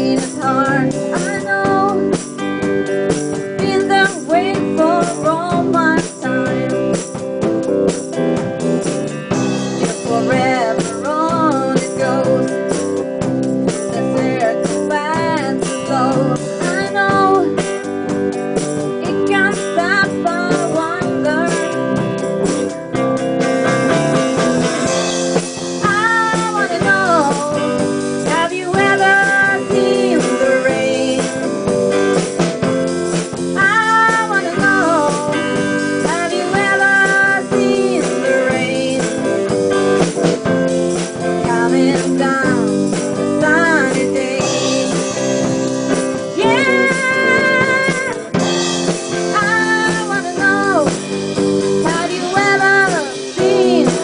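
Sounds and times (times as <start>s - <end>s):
rock song with vocals: 0.0s - 54.0s.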